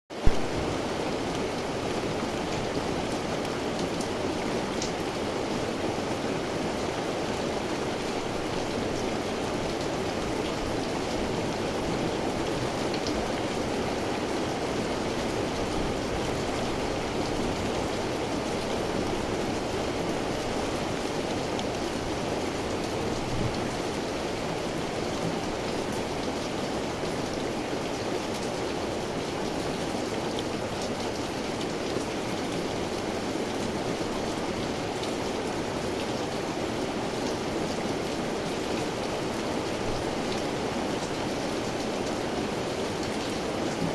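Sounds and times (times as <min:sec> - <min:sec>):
steady rain falling: 0:00.1 - 0:43.9.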